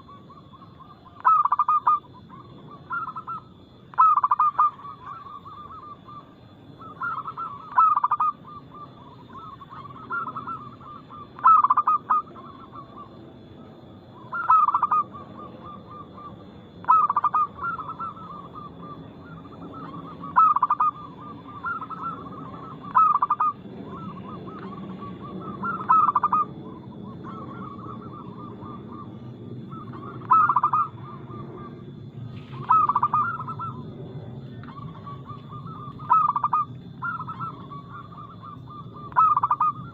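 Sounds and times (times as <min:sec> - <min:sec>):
doves cooing: 0:00.0 - 0:39.9
low steady hum: 0:00.0 - 0:39.9.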